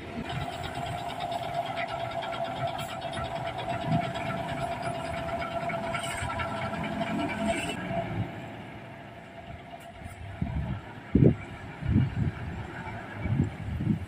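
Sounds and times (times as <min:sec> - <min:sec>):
bus diesel engine: 0:00.0 - 0:14.0
steady whine: 0:00.0 - 0:14.0.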